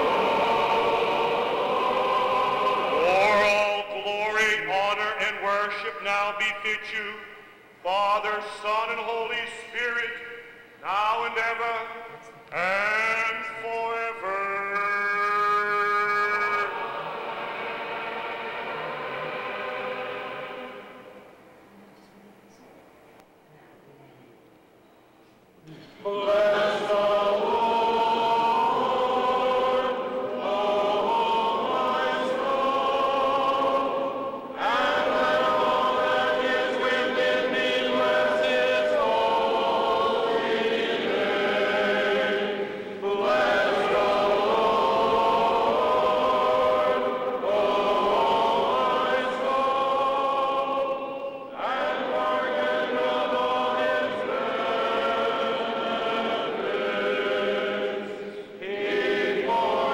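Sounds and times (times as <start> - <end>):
choir singing liturgical chant: 0.0 - 21.4, 25.7 - 59.9.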